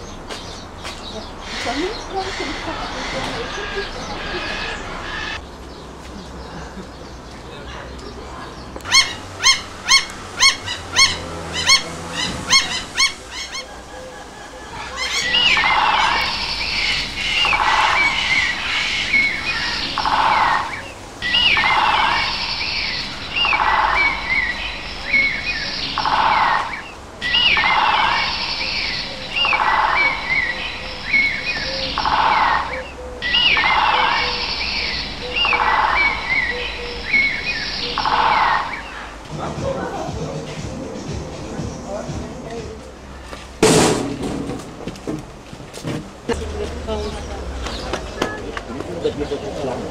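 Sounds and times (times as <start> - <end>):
birds chirping and whistling: 0.0 - 44.4, 46.3 - 49.9.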